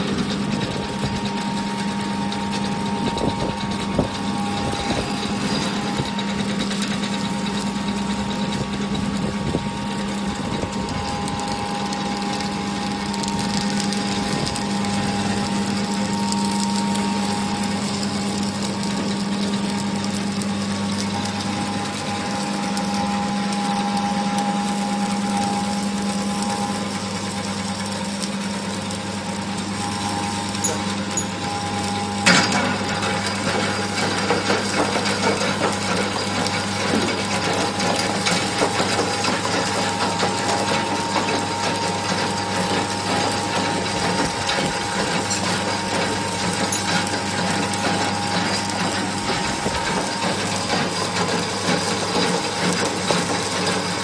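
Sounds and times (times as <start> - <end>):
food extruder motor humming: 0.0 - 54.0.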